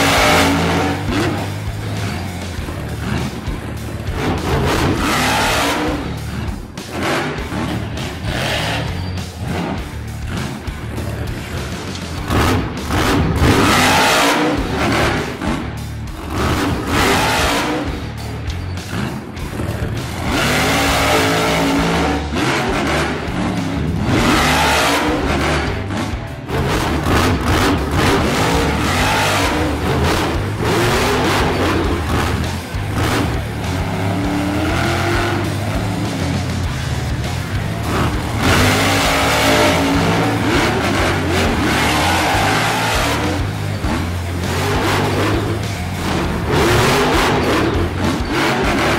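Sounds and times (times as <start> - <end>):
music with steady bass: 0.0 - 48.9.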